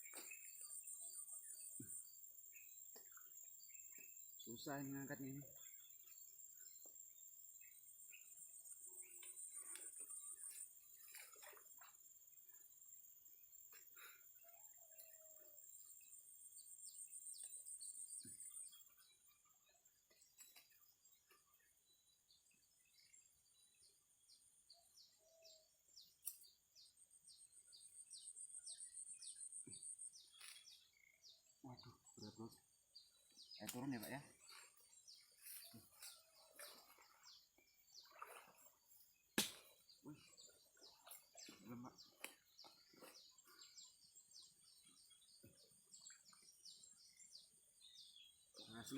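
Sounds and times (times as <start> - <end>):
faint chirps: 0.0 - 48.9.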